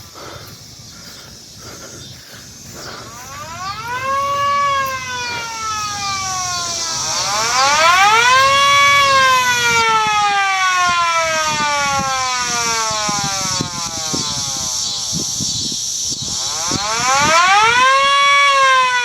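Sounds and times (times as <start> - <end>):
mechanical rotor siren wailing: 3.0 - 19.0.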